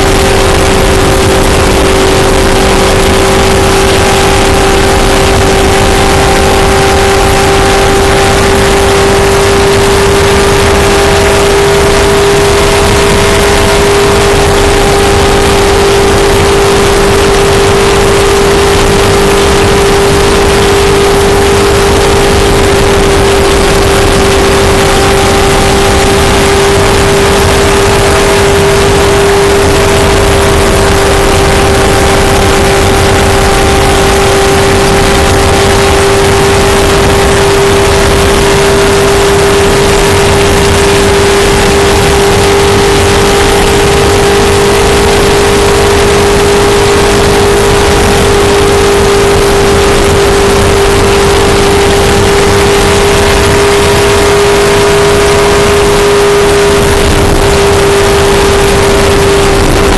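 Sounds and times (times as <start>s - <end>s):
race car engine droning: 0.0s - 59.9s
road roar: 0.0s - 59.9s
rushing wind: 0.0s - 59.9s.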